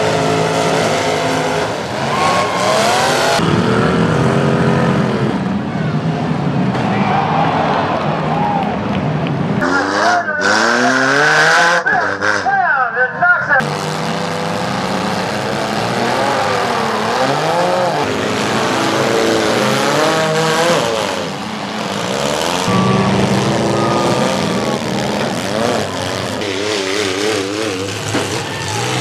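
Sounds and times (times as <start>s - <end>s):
car engines revving loudly: 0.0s - 12.8s, 13.4s - 29.0s.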